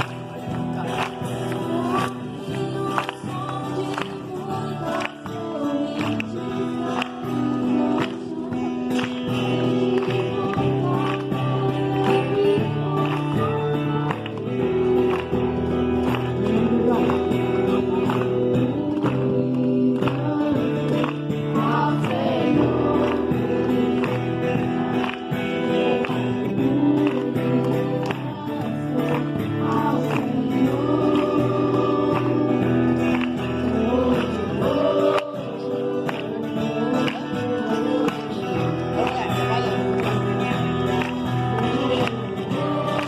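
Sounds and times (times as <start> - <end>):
band playing worship music: 0.0 - 43.0
voices singing: 0.0 - 43.0.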